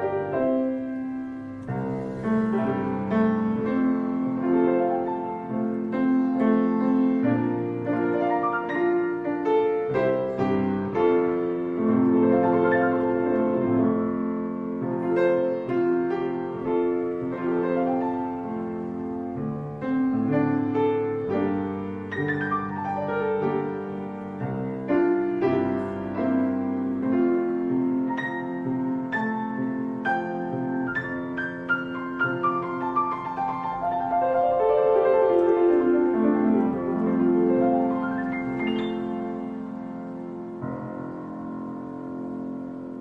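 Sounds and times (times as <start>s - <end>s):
gentle piano music: 0.0s - 43.0s.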